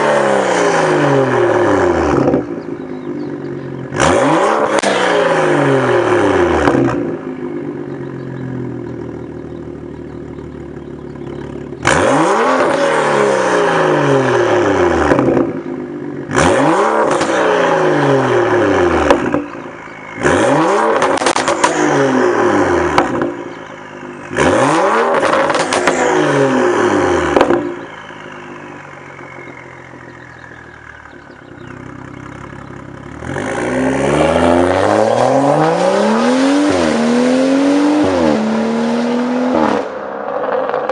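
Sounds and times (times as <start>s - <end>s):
car engine revving and idling: 0.0s - 40.9s
exhaust crackle: 0.4s - 38.5s, 39.1s - 40.9s.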